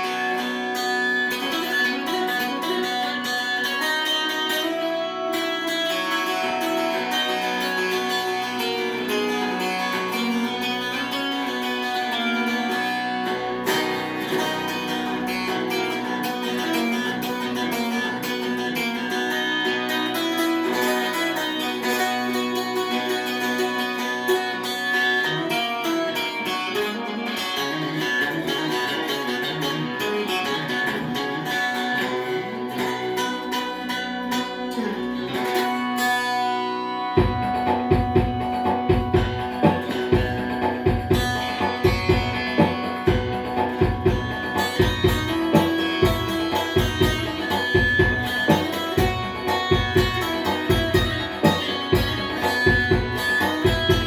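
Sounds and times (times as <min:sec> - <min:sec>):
guitar music: 0:00.0 - 0:54.0.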